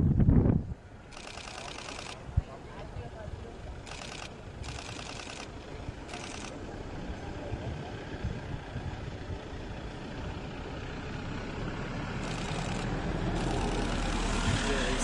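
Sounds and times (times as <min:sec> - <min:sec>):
vehicle engine idling: 0:00.7 - 0:15.0.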